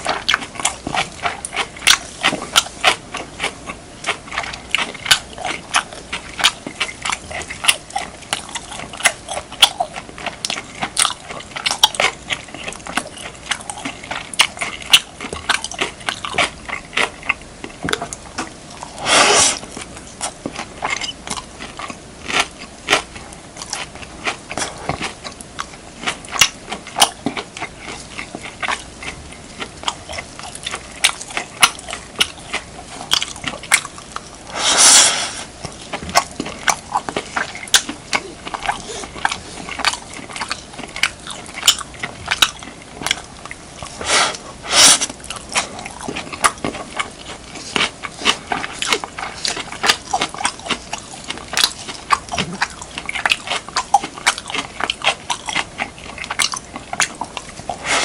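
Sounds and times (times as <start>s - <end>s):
close chewing with crunches: 0.0s - 58.0s.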